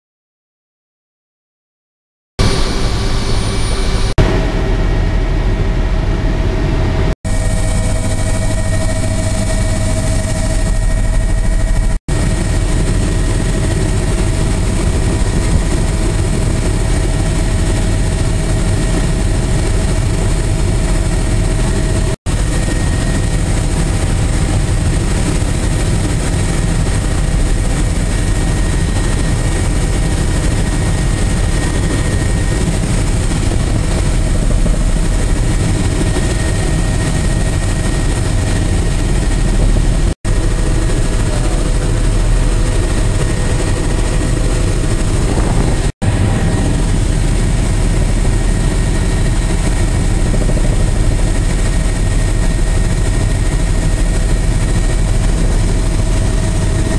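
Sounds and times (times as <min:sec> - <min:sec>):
helicopter engine and rotor drone: 0:02.4 - 0:56.9.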